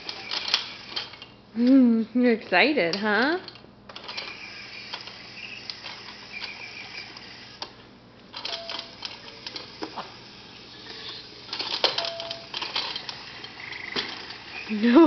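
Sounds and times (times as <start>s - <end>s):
plastic toys clicking and rattling: 0.0s - 1.3s, 2.9s - 10.2s, 10.8s - 15.0s.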